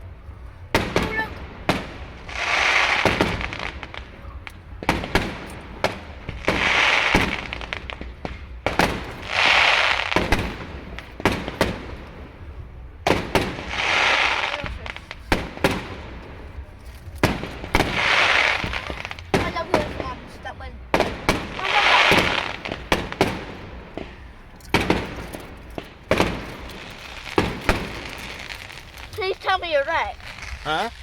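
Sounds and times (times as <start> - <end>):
fireworks cracks and pops: 0.7 - 12.2, 13.1 - 31.0
fireworks hissing rush: 0.7 - 31.0.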